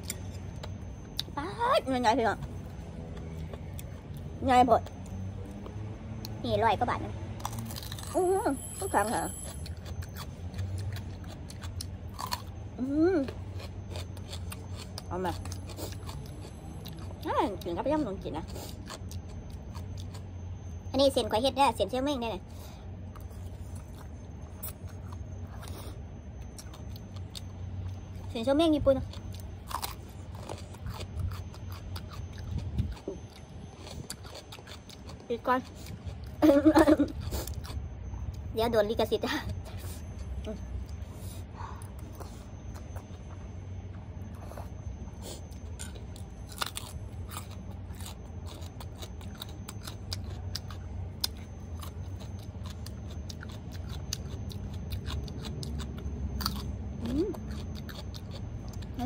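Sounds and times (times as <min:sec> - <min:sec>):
low hum: 0:00.0 - 0:59.0
chewing crisp crunches: 0:07.2 - 0:21.2, 0:22.4 - 0:38.5, 0:39.6 - 0:59.0.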